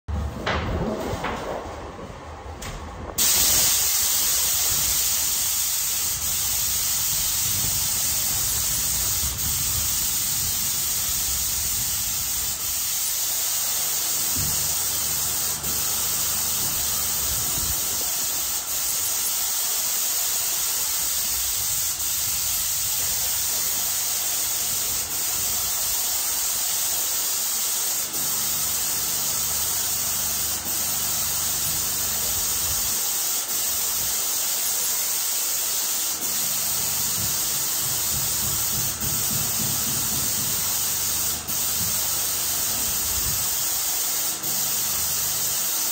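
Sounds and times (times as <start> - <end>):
paint sprayer hissing: 3.2 - 45.9.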